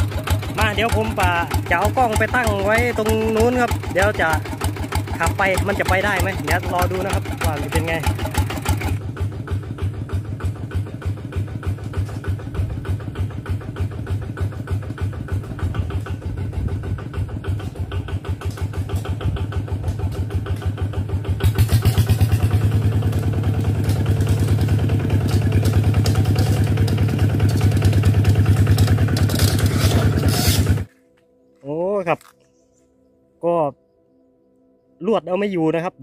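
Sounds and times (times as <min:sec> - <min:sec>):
diesel engine chugging: 0:00.0 - 0:30.9.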